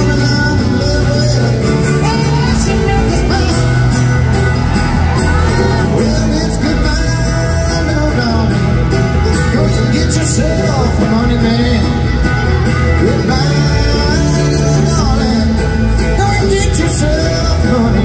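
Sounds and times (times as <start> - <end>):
bluegrass band playing: 0.0 - 18.0.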